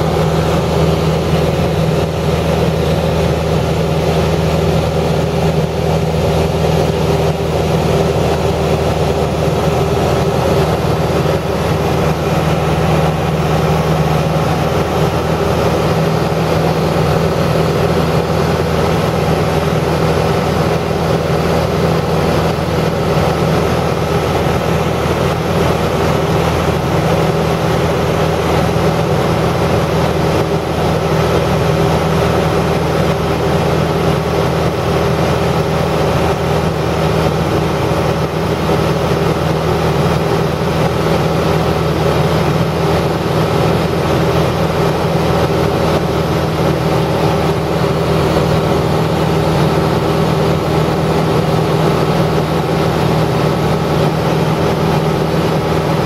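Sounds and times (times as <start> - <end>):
machine drone: 0.0 - 56.0.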